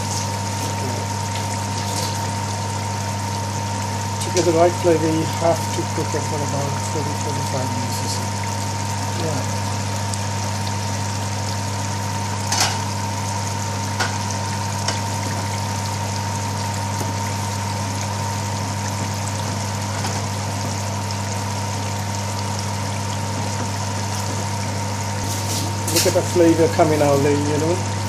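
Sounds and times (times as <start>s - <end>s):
curry bubbling in a pan: 0.0s - 28.0s.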